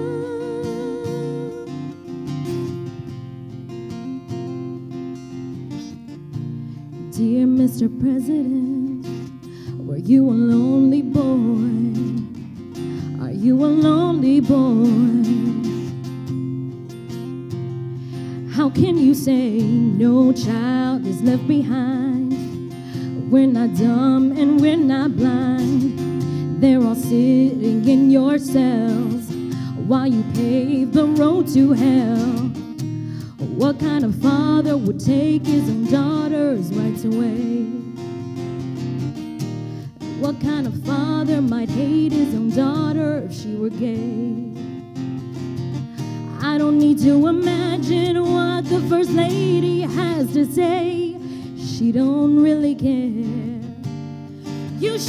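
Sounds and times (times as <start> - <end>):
woman singing: 0.0 - 4.8, 6.9 - 16.7, 17.5 - 38.5, 39.9 - 55.0
acoustic guitar: 0.0 - 55.0.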